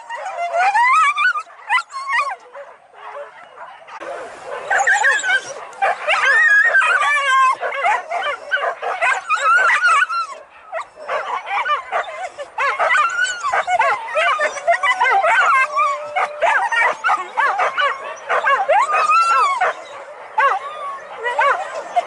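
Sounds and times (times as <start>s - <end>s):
dogs barking and yelping: 0.0s - 22.0s.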